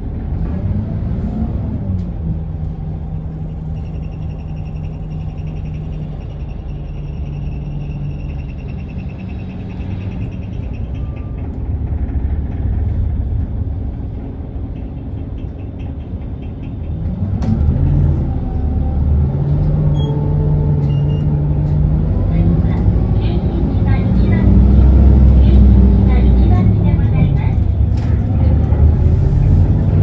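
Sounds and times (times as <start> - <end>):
bus diesel engine: 0.0 - 30.0.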